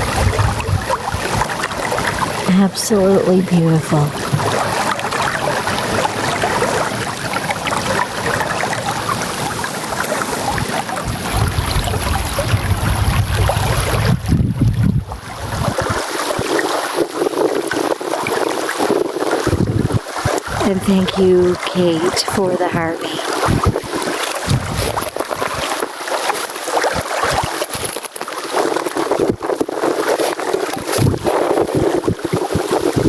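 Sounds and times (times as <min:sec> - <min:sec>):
river water rushing and splashing: 0:00.0 - 0:14.4, 0:15.1 - 0:20.7, 0:21.3 - 0:33.0
wind rumble on microphone: 0:00.0 - 0:21.9, 0:23.2 - 0:26.1, 0:26.8 - 0:33.0.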